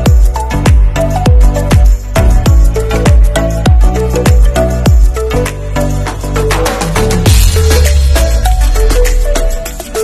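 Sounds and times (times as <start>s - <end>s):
heavy bass: 0.0s - 10.0s
music with steady beat: 0.0s - 10.0s.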